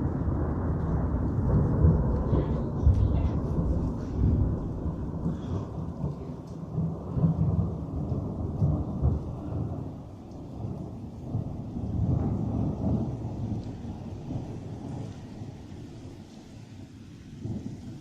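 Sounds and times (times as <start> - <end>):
rain falling: 0.0 - 18.0
thunder rumbling: 0.0 - 18.0.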